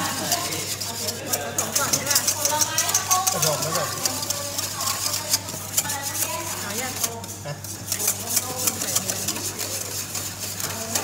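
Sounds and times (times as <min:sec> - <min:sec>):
whisk wires clicking against metal bowl: 0:00.0 - 0:11.0.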